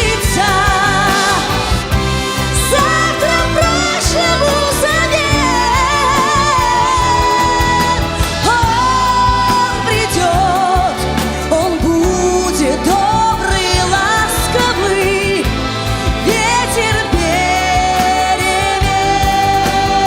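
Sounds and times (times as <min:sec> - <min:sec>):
bass and drum beat: 0:00.0 - 0:20.0
orchestra playing: 0:00.0 - 0:20.0
woman singing with vibrato: 0:00.0 - 0:20.0.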